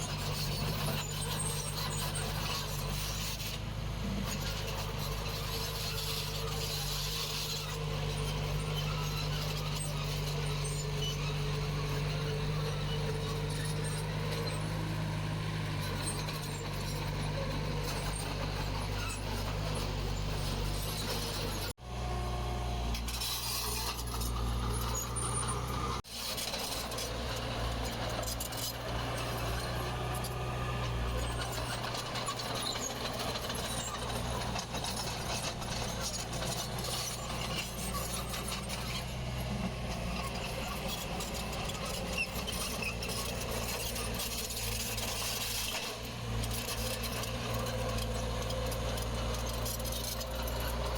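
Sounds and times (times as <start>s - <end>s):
heavy machinery diesel engines droning: 0.0s - 50.9s.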